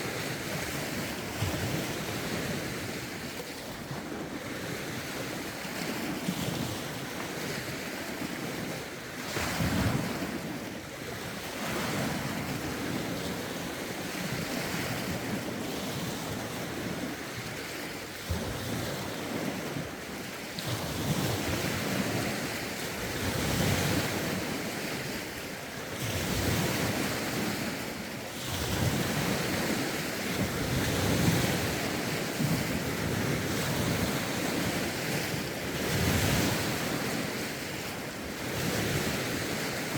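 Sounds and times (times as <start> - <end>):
waves breaking against shore: 0.0 - 39.9
wind buffeting microphone: 0.0 - 39.9.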